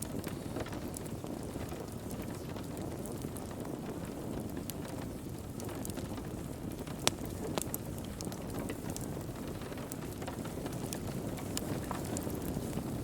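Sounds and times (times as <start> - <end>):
sharp pops and snaps: 0.0 - 13.0
wood fire crackling: 0.0 - 13.0.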